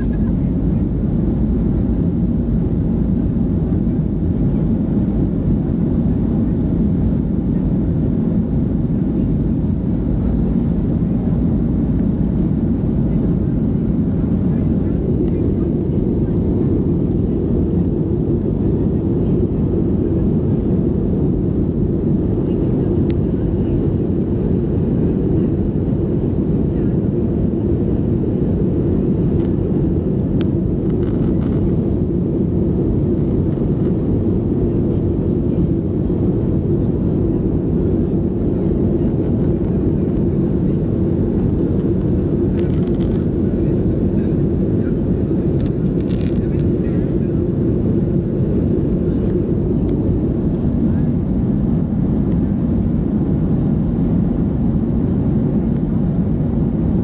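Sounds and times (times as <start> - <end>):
airplane cabin engine drone: 0.0 - 57.0.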